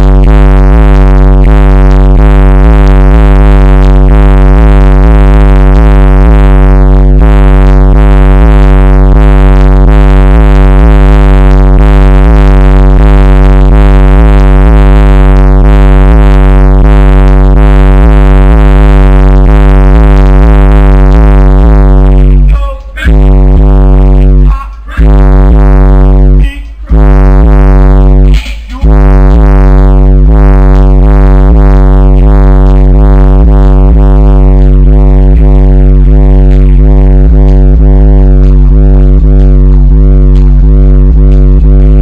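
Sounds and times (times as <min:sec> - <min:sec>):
distorted pulsing bass music: 0:00.0 - 0:42.0.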